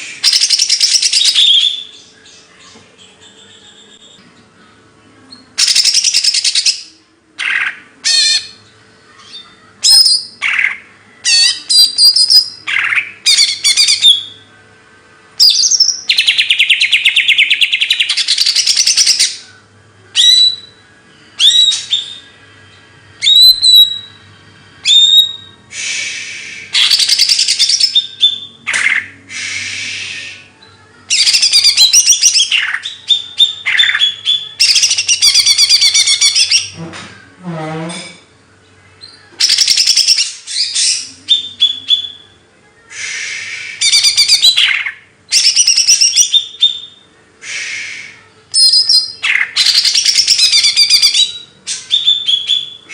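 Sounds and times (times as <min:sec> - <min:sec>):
songbird singing trills and whistles: 0:00.2 - 0:04.3, 0:05.2 - 0:14.5, 0:15.4 - 0:36.8, 0:38.9 - 0:52.9.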